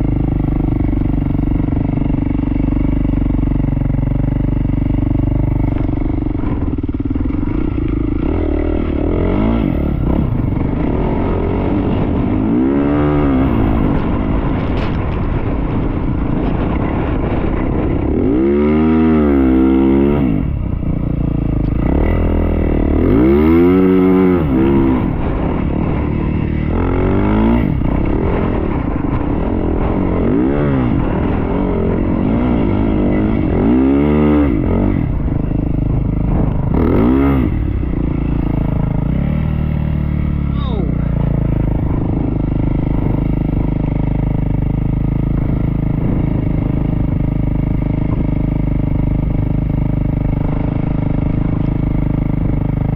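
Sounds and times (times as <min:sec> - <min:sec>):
dirt bike engine revving: 0:00.0 - 0:20.6, 0:21.6 - 0:52.9.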